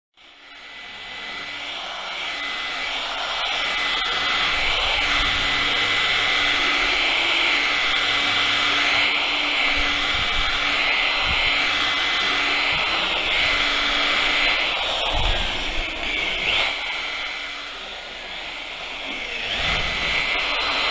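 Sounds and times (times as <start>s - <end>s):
electric sander motor whine: 0.2s - 20.9s.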